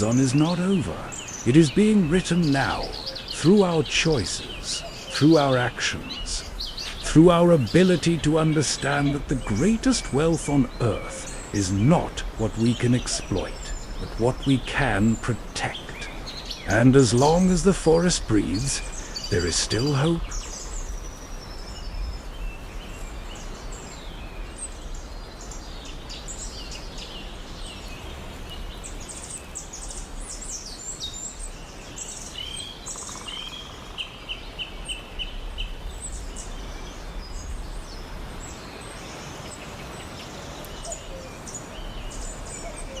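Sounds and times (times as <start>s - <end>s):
birds chirping and calling: 0.0s - 43.0s
steady background hiss: 0.0s - 43.0s.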